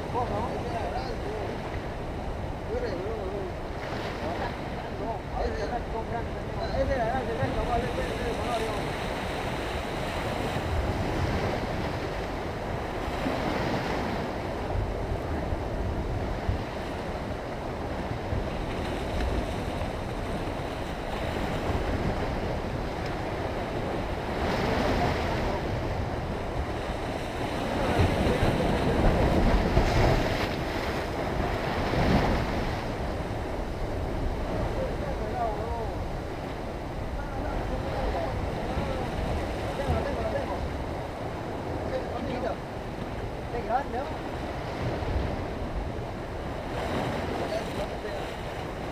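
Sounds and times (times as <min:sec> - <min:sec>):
surf breaking on rocky shore: 0:00.0 - 0:48.9.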